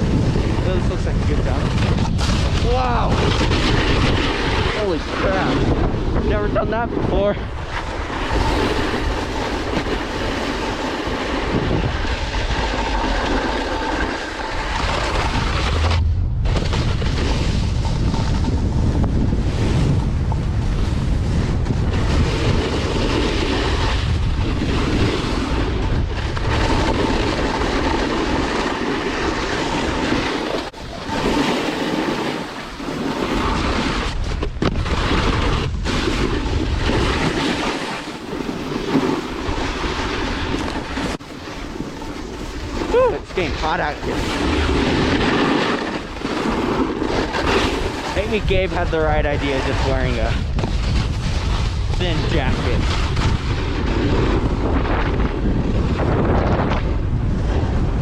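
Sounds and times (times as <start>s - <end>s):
snowboard scraping over snow: 0.0s - 58.0s
wind rushing over microphone: 0.0s - 58.0s.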